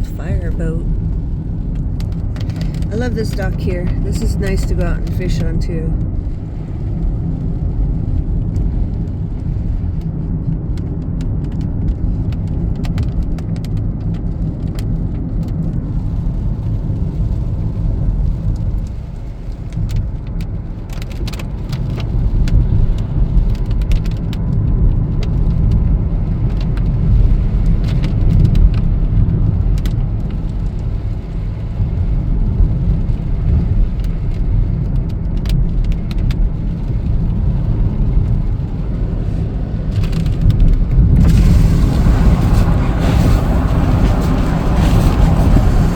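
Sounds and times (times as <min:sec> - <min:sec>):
rain ticking on car: 0:00.0 - 0:45.9
road and engine rumble: 0:00.0 - 0:45.9.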